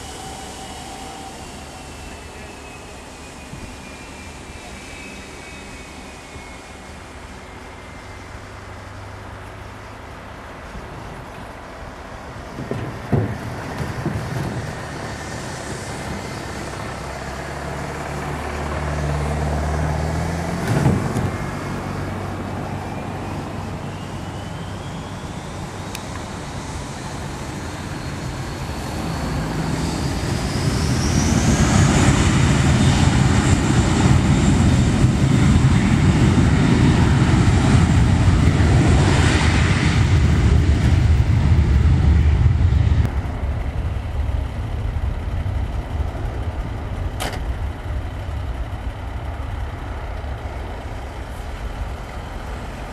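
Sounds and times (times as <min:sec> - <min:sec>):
jet engine roaring: 0:00.0 - 0:52.9
jet engine whine rising: 0:00.0 - 0:52.9.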